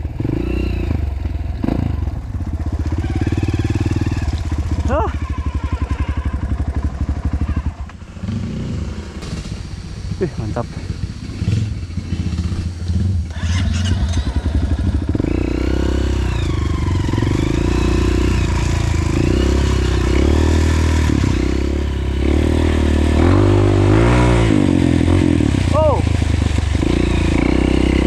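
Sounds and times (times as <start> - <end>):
motorcycle engine chugging and revving: 0.0 - 28.0.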